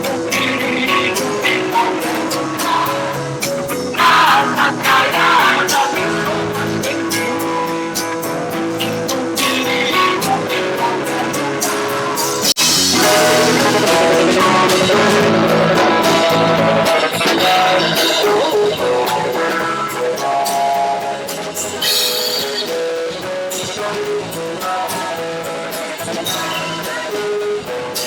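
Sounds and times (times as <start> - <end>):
rock band playing live: 0.0 - 28.0.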